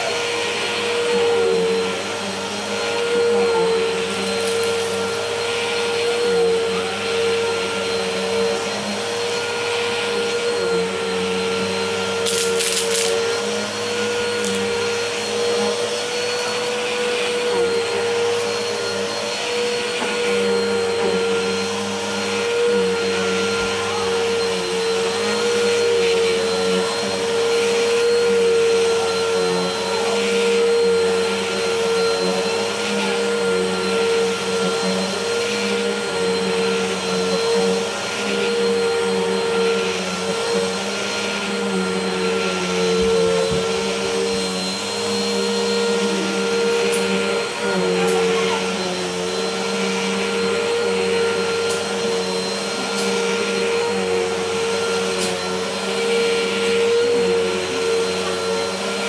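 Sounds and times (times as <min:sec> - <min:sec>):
upright vacuum cleaner running: 0:00.0 - 0:59.0.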